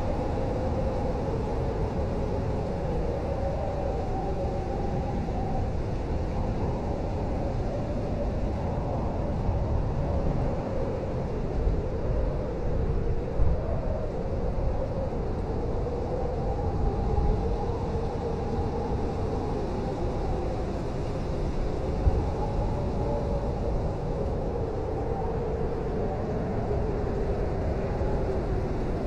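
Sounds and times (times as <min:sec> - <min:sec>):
wind howling: 0:00.0 - 0:29.0.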